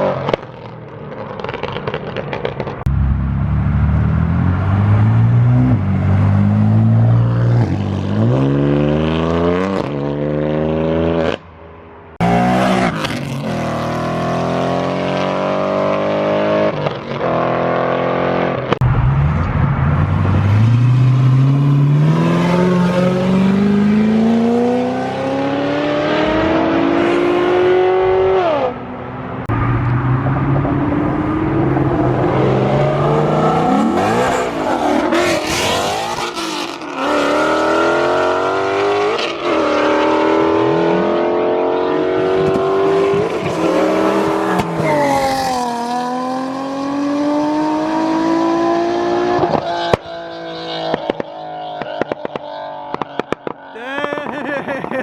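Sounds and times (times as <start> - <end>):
cars accelerating hard: 2.8 - 11.4, 12.2 - 55.0.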